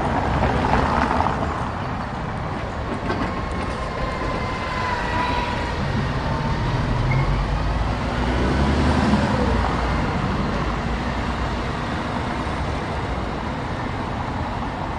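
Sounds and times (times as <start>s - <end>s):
road traffic: 0.0s - 14.9s.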